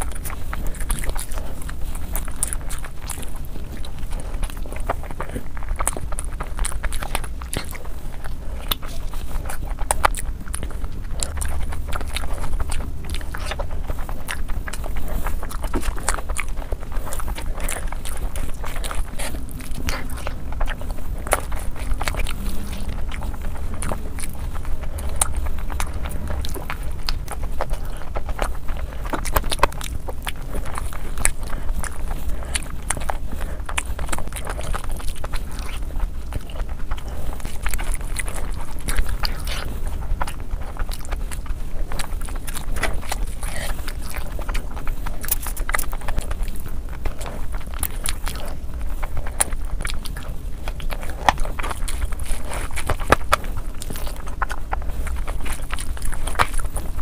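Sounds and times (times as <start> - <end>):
chewing and mouth smacks: 0.0 - 57.0.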